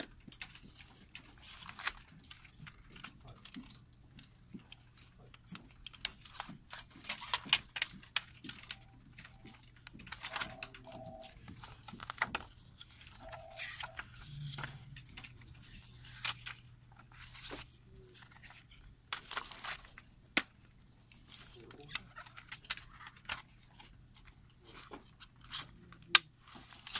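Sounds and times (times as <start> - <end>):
paper pages rustling: 0.0 - 26.9
plastic cd cases clicking: 0.2 - 20.6, 21.2 - 26.9.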